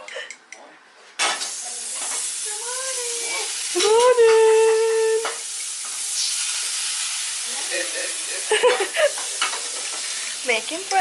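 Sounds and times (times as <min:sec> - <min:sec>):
food sizzling in a frying pan: 0:01.2 - 0:11.0.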